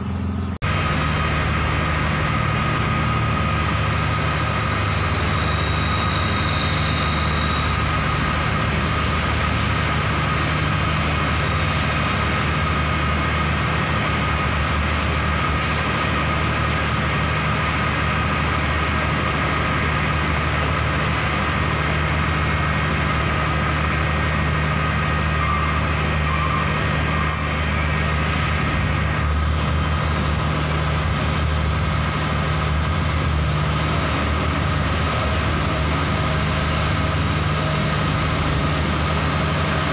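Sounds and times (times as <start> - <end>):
loader engine idling: 0.0 - 39.9
truck moving slowly past: 0.0 - 39.9.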